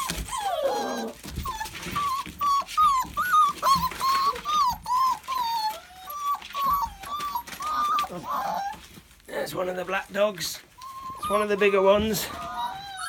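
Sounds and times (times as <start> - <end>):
puppies whimpering: 0.0 - 13.0.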